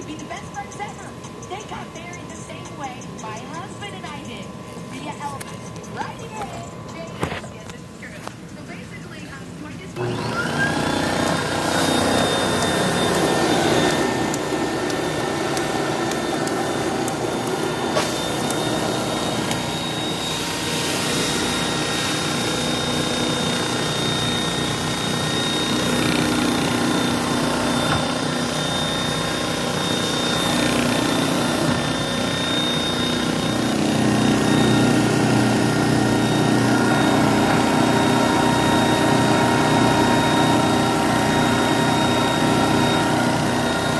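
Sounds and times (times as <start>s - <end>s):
carpet extractor motor whine: 0.0s - 8.6s, 9.8s - 43.9s.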